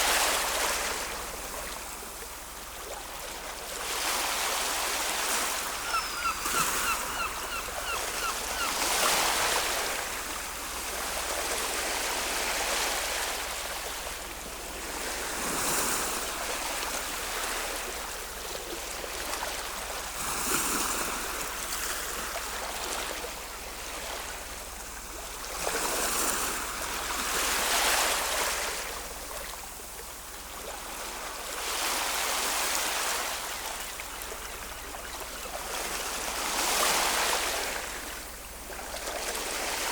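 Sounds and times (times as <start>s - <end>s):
ocean waves washing onto shore: 0.0s - 39.9s.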